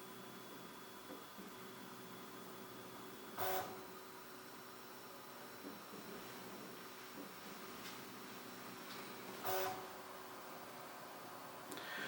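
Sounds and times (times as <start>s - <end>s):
three d printer low whir: 0.0s - 12.0s.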